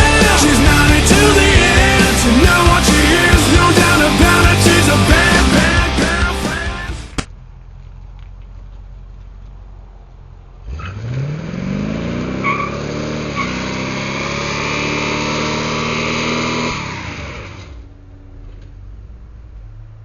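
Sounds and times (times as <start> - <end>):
truck engine idling and revving: 0.0 - 20.0.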